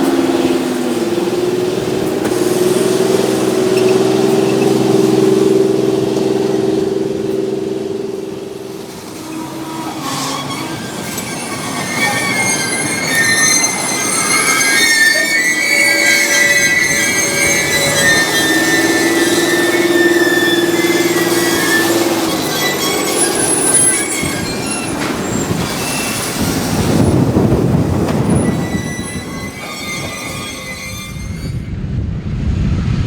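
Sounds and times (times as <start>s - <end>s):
steel wheel squeal: 0.0s - 31.7s
freight train rolling: 0.0s - 33.0s.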